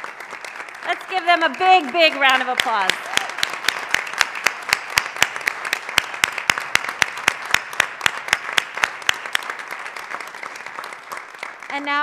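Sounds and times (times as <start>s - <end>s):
audience applause: 0.0s - 12.0s
sharp hand claps close up: 0.0s - 12.0s.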